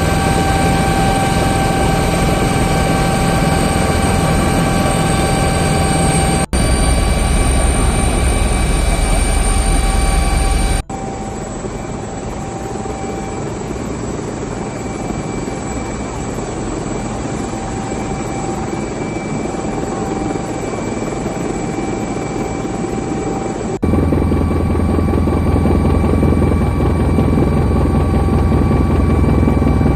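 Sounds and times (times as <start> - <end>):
helicopter turbine and rotor: 0.0 - 29.9.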